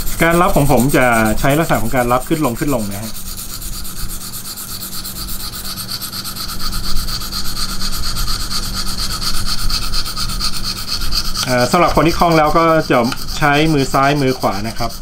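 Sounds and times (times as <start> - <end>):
sharpening stone rasping on knife: 0.0 - 15.0.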